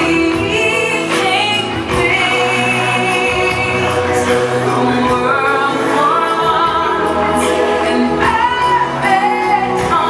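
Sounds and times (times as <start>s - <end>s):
choir singing: 0.0s - 10.0s
sustained music accompaniment: 0.0s - 10.0s.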